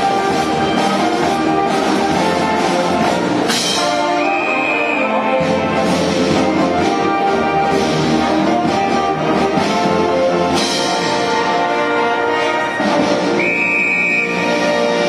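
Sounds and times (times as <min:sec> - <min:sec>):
orchestral brass music: 0:00.0 - 0:15.0.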